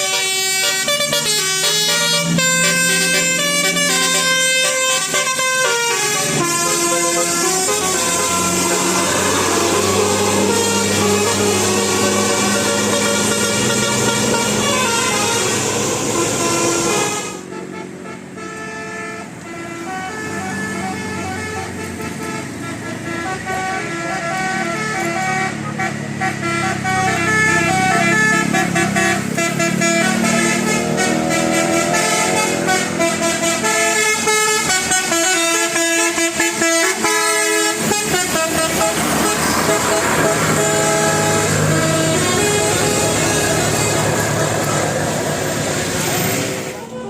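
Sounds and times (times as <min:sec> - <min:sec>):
multi-tone bus air horns playing tune: 0:00.0 - 0:47.0.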